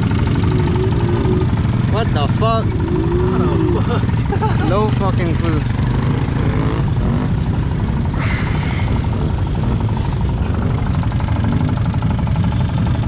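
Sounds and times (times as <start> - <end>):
off-road vehicle engine idling: 0.0 - 13.0.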